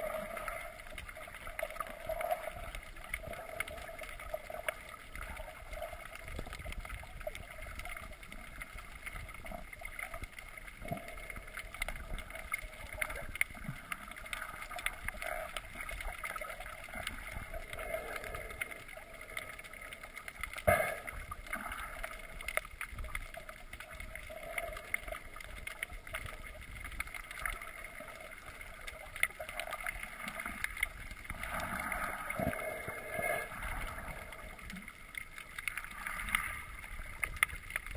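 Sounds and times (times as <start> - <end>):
faint crackling: 0.0 - 37.9
muffled underwater noise: 0.0 - 37.9.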